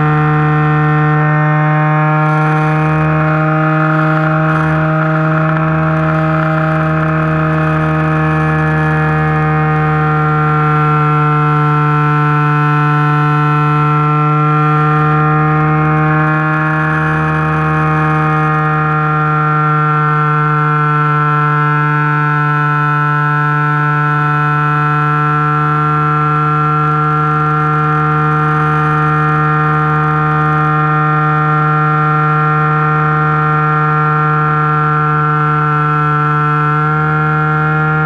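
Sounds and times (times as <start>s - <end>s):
electric motor whine: 0.0s - 38.0s.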